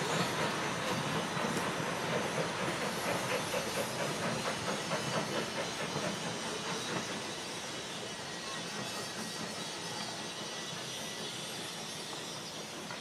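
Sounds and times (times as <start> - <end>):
steam hissing: 0.0 - 13.0
steam train running: 0.0 - 13.0.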